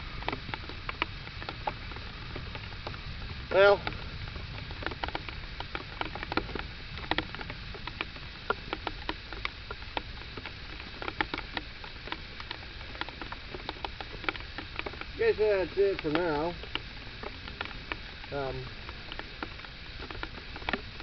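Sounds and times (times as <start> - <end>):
raindrops pattering: 0.0 - 21.0.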